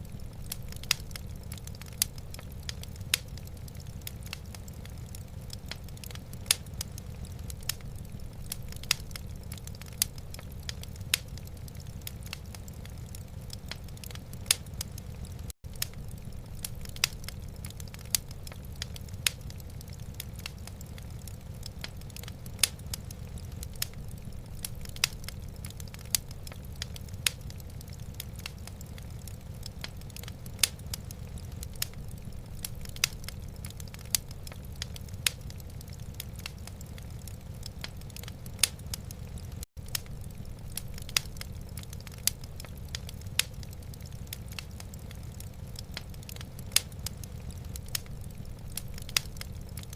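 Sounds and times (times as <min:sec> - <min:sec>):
steady low rumble: 0:00.0 - 0:49.9
wood fire crackling and popping: 0:00.0 - 0:49.9.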